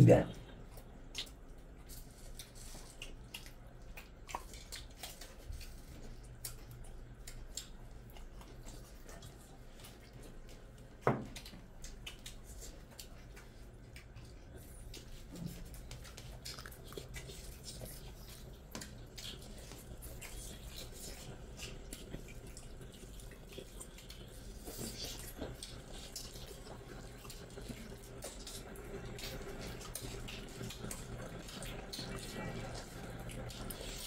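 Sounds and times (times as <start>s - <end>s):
wet chewing and mouth sounds: 0.3s - 34.0s.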